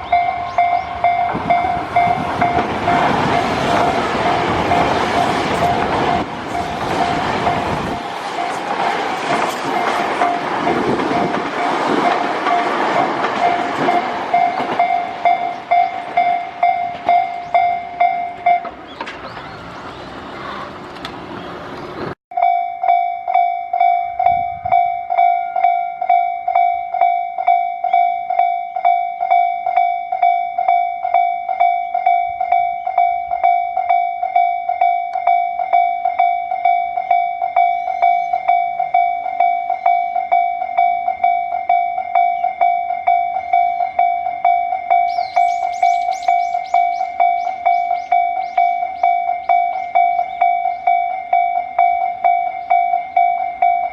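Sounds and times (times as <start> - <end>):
level-crossing warning bell ringing: 0.0 - 20.8, 22.3 - 53.9
train passing: 0.0 - 53.9.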